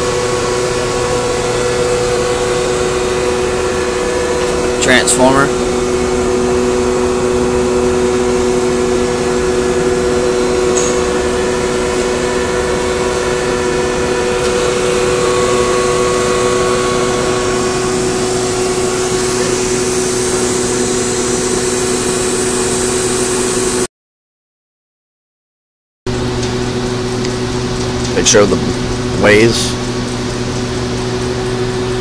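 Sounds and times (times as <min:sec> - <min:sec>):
lathe machine hum: 0:00.0 - 0:23.8, 0:26.1 - 0:32.0.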